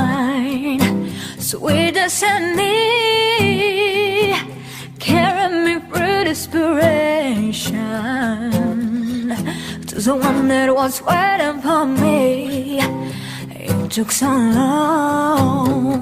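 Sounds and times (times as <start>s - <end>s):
person singing with vibrato: 0.0s - 16.0s
soft musical accompaniment: 0.0s - 16.0s.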